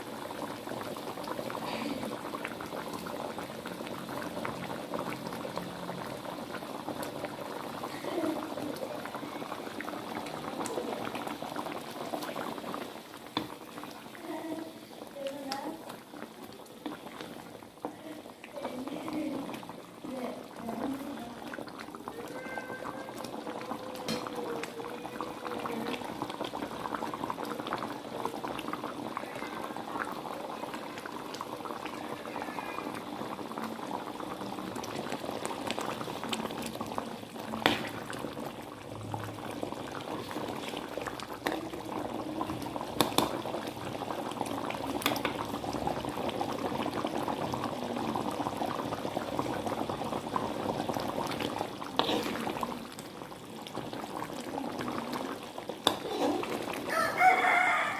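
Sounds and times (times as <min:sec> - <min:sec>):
pot of food bubbling: 0:00.0 - 0:57.9.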